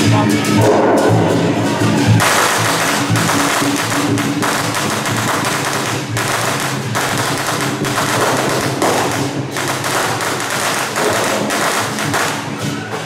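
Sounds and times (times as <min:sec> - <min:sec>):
firecrackers crackling: 0:01.3 - 0:13.0
procession music: 0:01.8 - 0:13.0.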